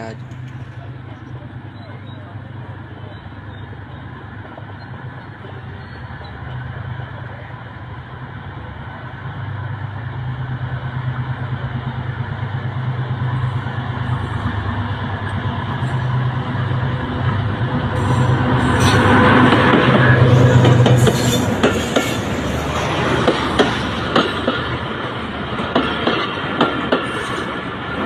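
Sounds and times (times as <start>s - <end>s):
diesel locomotive engine hum: 0.0s - 28.0s.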